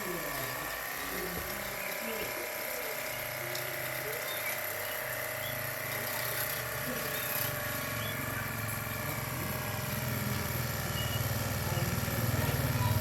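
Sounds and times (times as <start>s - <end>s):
power tiller engine running: 0.0s - 13.0s.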